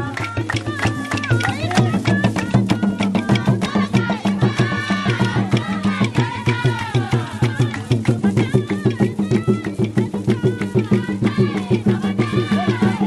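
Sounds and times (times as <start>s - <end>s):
percussion: 0.0s - 13.0s
rhythmic hand-clapping: 0.0s - 13.0s
voices singing together: 0.0s - 13.0s.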